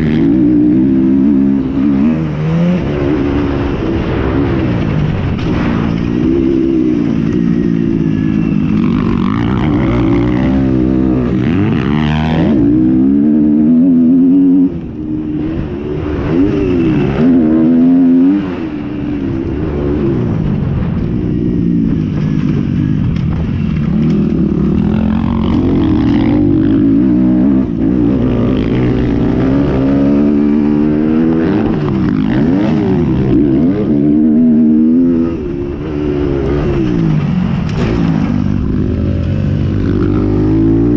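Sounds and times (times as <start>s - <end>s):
motocross bikes revving past: 0.0s - 20.9s, 21.5s - 40.9s.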